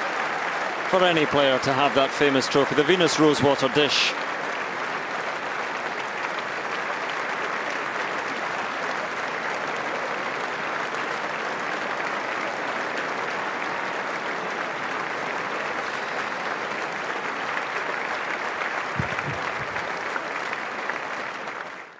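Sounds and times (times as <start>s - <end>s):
large crowd applauding: 0.0s - 21.9s.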